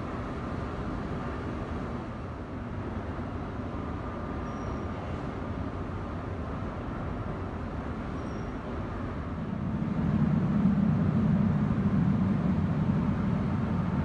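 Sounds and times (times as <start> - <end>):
low rumble of subway station: 0.0 - 14.0.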